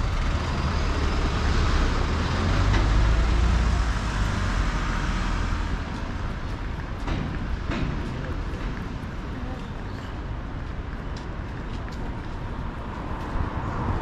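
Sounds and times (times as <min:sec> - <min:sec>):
road noise: 0:00.0 - 0:14.0
vehicle engine rumble: 0:00.0 - 0:14.0.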